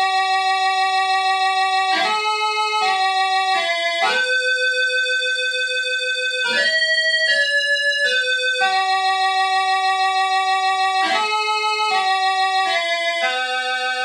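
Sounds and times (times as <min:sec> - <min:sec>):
electronic keyboard organ melody: 0:00.0 - 0:14.0.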